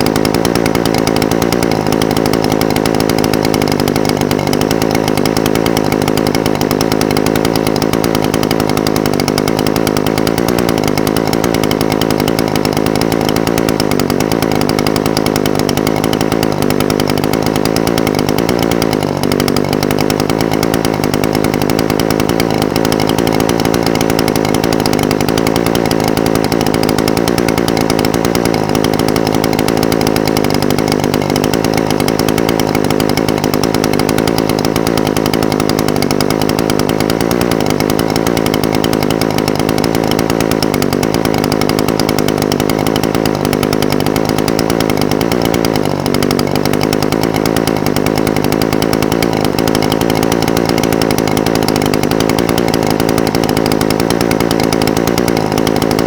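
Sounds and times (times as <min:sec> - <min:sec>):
brush cutter engine idling: 0:00.0 - 0:56.0.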